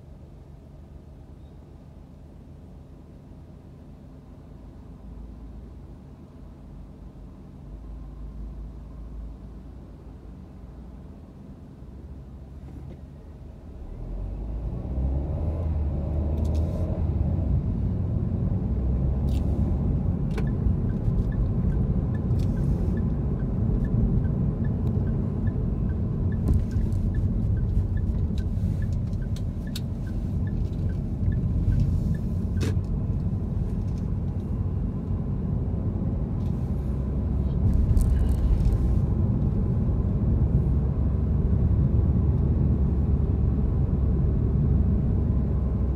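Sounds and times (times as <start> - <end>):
car engine and road rumble: 0.0 - 45.9.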